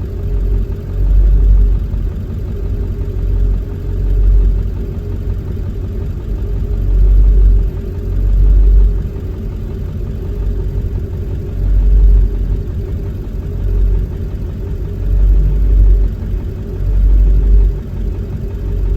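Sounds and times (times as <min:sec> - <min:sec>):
diesel engine idling roughly: 0:00.0 - 0:18.9.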